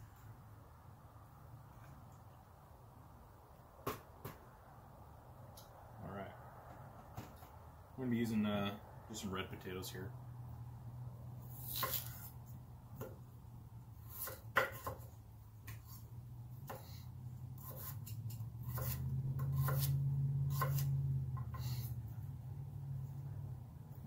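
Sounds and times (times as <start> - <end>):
low steady hum: 4.4 - 24.0.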